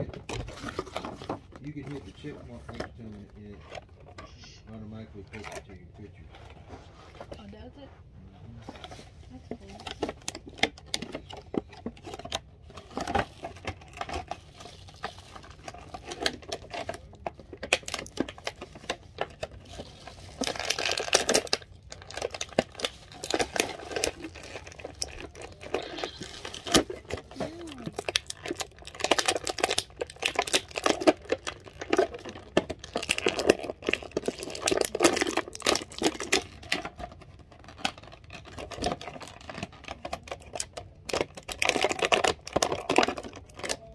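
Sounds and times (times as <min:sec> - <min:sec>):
plastic packaging crinkling: 0:00.0 - 0:06.6, 0:08.7 - 0:43.9.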